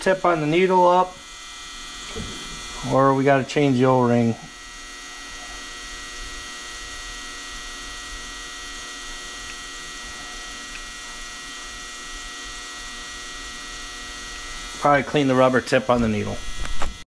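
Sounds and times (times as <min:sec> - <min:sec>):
electrical hum: 0:00.0 - 0:17.0
thin high whine: 0:00.0 - 0:17.0.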